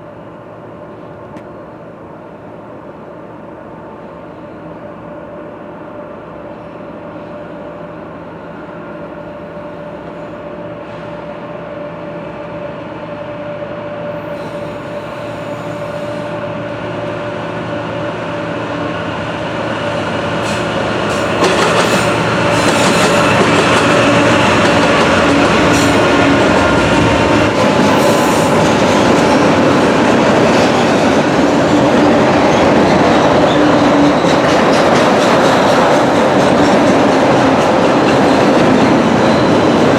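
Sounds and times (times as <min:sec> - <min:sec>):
diesel locomotive engines: 0:00.0 - 0:39.9.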